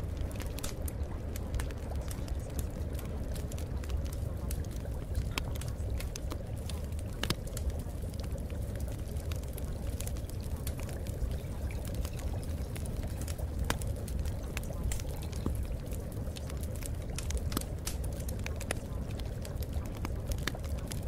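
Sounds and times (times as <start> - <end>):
small clicks and crackles: 0.0 - 21.0.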